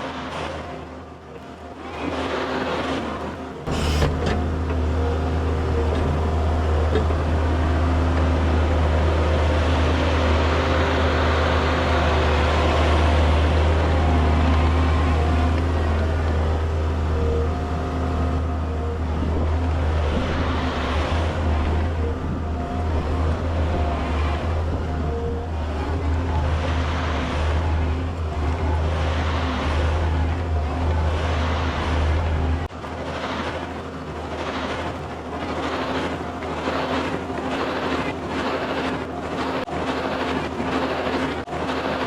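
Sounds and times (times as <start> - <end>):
loader engine droning: 0.0 - 42.0.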